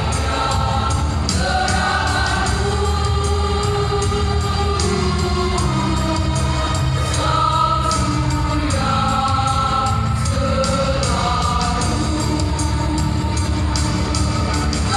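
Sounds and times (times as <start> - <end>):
choir singing held notes: 0.0 - 13.2.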